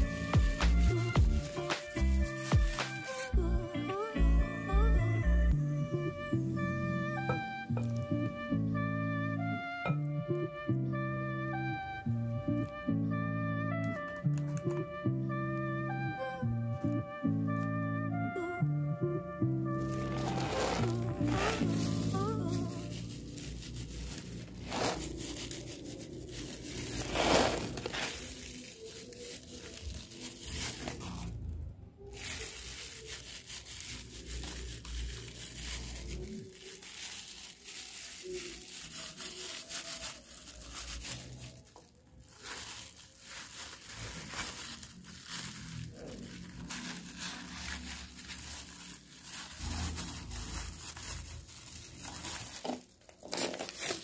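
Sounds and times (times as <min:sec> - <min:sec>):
plastic gloves and paper crinkling: 0:00.0 - 0:03.4, 0:07.2 - 0:09.2, 0:11.6 - 0:16.0, 0:19.3 - 0:54.0.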